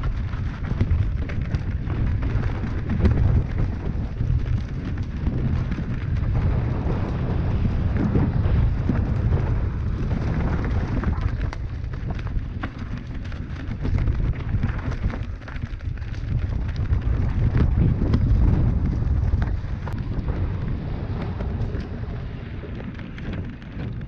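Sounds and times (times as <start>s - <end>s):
bike knocking and rattling: 0.0s - 24.0s
bike tyres on dirt: 0.0s - 24.0s
wind rumble on microphone: 0.0s - 24.0s.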